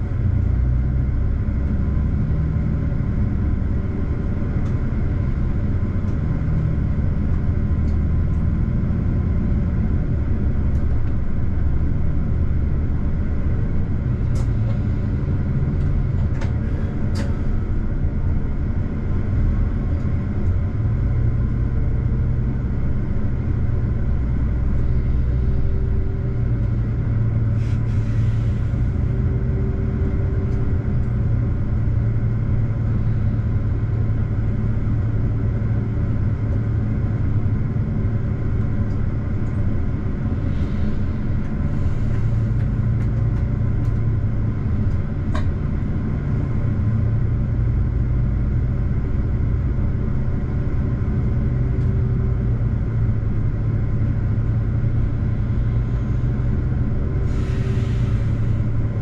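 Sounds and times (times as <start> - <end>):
train engine and wheels rumbling: 0.0 - 59.0.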